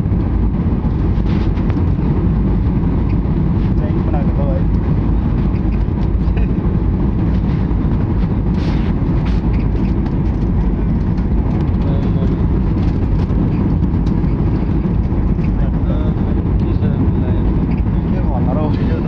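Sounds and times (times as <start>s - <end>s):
aeroplane engines rumbling: 0.0s - 19.0s.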